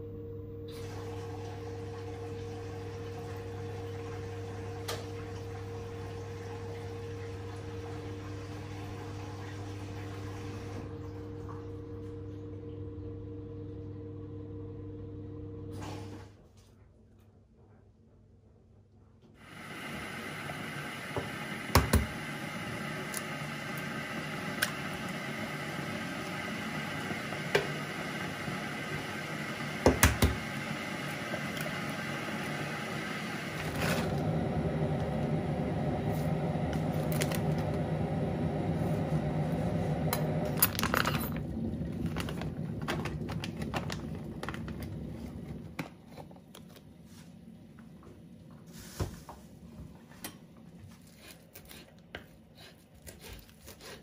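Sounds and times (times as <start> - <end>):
steady machine hum: 0.0 - 15.9, 19.4 - 51.0.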